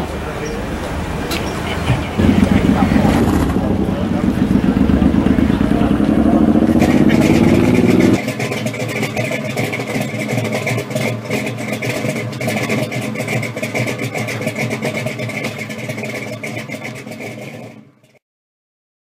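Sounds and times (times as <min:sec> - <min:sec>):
loud engine sound: 0:00.0 - 0:17.8
car engine idling unevenly: 0:00.0 - 0:17.9.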